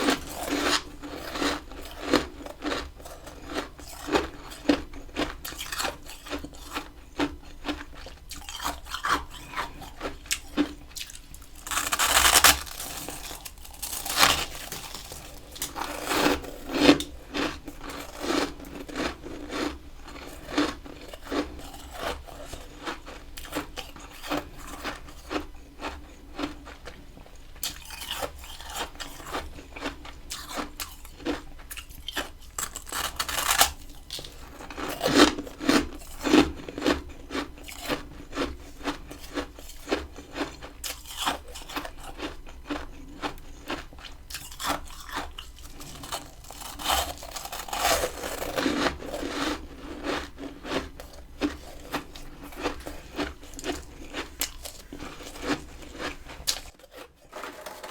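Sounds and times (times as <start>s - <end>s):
chewing ice crunches: 0.0s - 57.9s.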